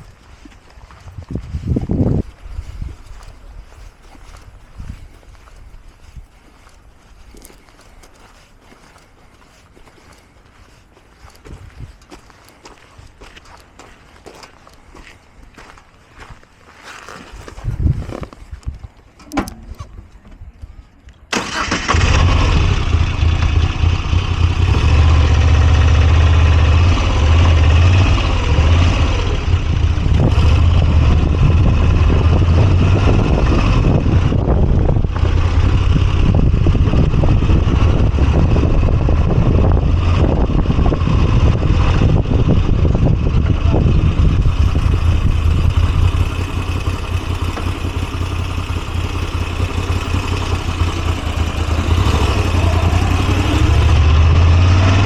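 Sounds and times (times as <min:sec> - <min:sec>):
motorcycle engine rumbling: 0:00.0 - 0:11.9, 0:19.2 - 0:20.6, 0:21.2 - 0:55.0.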